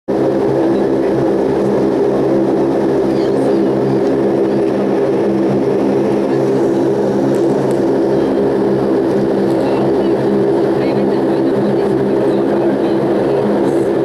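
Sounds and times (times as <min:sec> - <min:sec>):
turboprop engines droning: 0:00.1 - 0:14.0.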